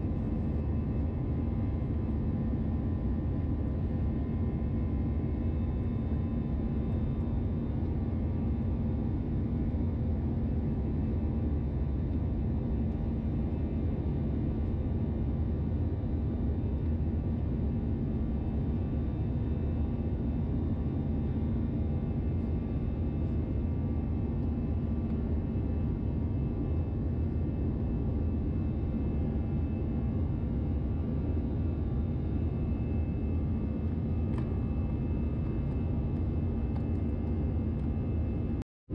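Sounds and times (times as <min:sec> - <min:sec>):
jet engine cabin drone: 0:00.0 - 0:38.6.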